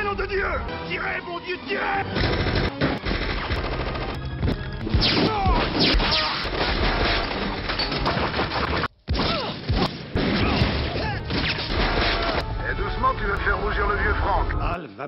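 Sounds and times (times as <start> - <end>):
action film music: 0.0 - 14.8.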